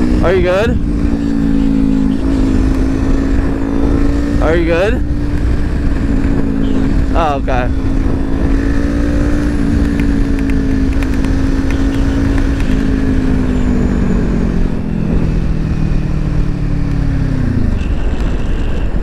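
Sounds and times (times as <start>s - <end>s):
heavy wind noise: 0.0s - 19.0s
motorcycle engine running: 0.0s - 19.0s.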